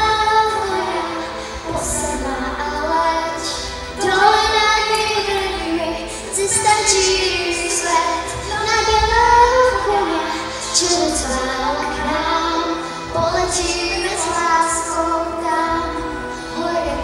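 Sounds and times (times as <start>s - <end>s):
girl singing into a microphone: 0.0s - 17.0s.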